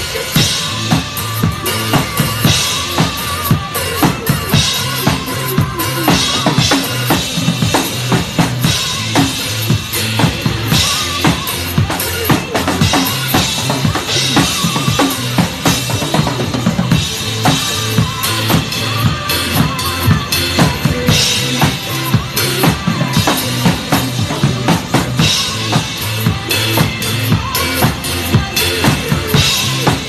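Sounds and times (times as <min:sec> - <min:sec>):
backing music track: 0:00.0 - 0:30.0
drum kit playing: 0:00.0 - 0:30.0.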